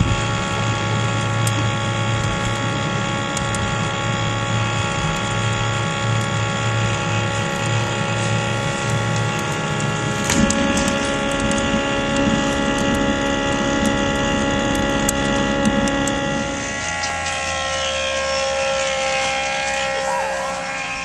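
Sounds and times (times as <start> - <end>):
electric blower whine: 0.0 - 21.0.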